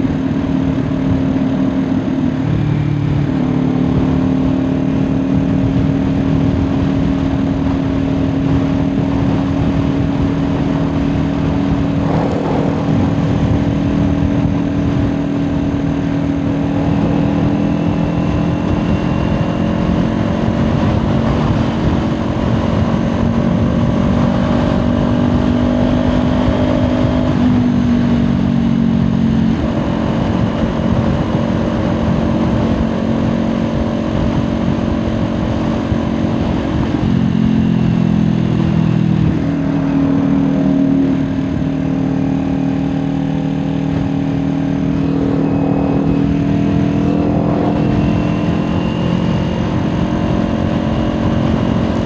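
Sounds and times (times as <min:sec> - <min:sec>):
motorcycle engine cruising: 0:00.0 - 0:52.0
wind noise: 0:00.0 - 0:52.0.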